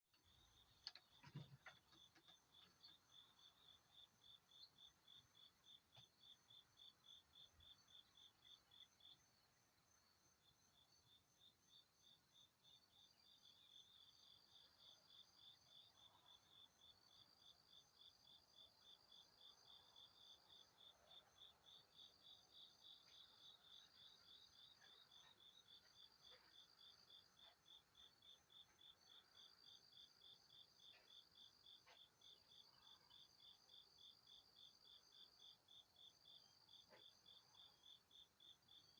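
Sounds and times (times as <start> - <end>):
high steady insect trill: 0.2 - 38.9.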